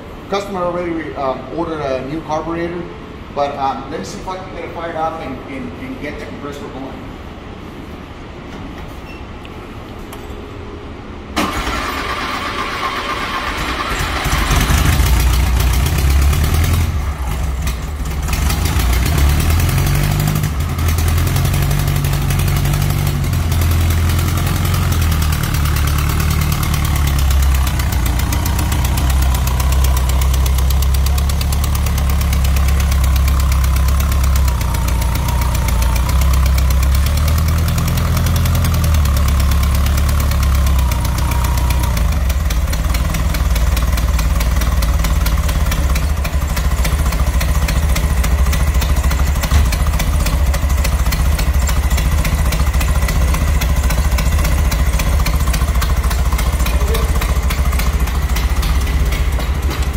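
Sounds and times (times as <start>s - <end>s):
air-conditioning compressor running: 0.0s - 59.9s
car engine idling: 11.4s - 59.9s.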